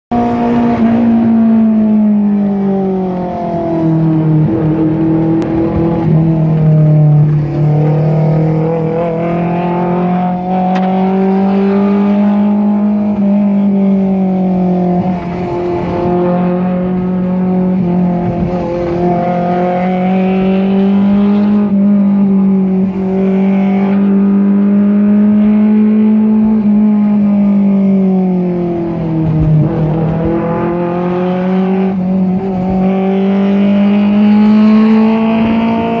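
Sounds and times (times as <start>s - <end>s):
car engine revving in cabin: 0.1s - 36.0s.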